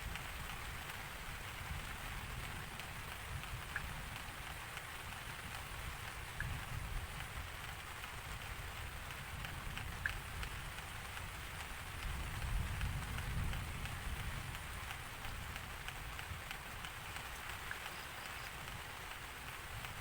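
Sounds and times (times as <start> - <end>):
rain falling: 0.0 - 20.0
raindrops ticking: 0.0 - 20.0.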